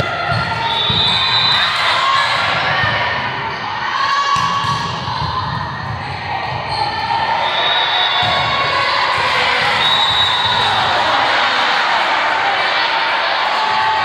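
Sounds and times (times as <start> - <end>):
voices and shouts in hall: 0.0 - 14.0.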